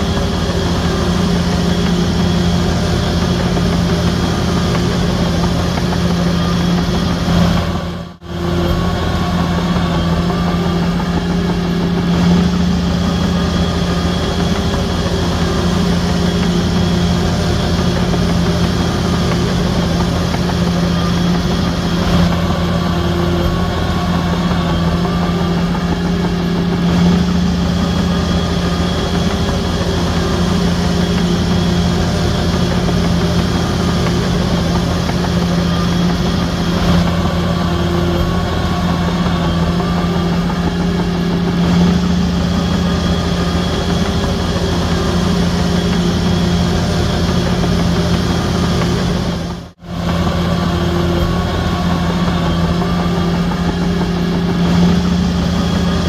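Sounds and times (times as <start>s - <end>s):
bulldozer diesel engine: 0.0s - 56.0s
faint high whine: 0.0s - 56.0s.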